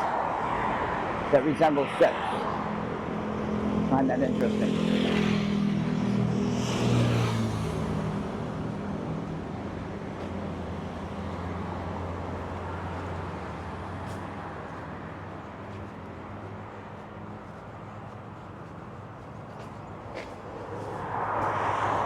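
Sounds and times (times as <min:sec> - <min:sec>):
low hum of road traffic: 0:00.0 - 0:22.0
vehicle engine passing by: 0:00.0 - 0:22.0.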